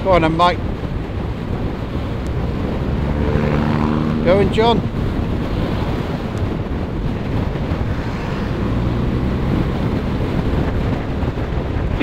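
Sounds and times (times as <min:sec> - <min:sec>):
motorcycle road noise: 0:00.0 - 0:12.0
wind buffeting microphone: 0:00.0 - 0:12.0
low engine drone: 0:01.4 - 0:12.0.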